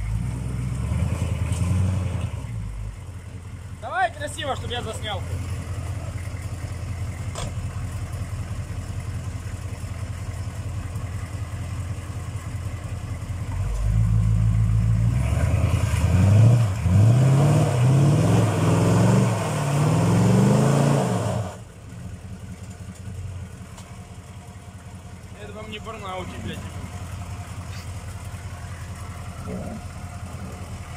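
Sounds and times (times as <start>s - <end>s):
diesel engine idling and revving: 0.0s - 30.9s.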